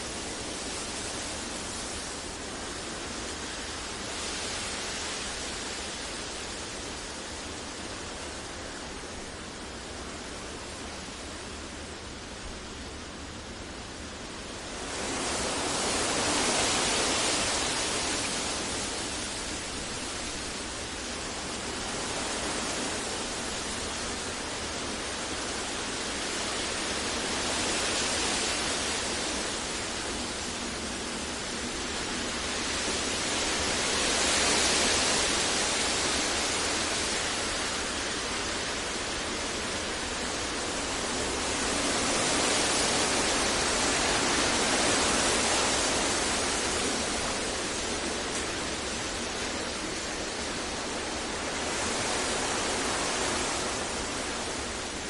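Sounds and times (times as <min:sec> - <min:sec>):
steady synthetic hiss: 0:00.0 - 0:55.0.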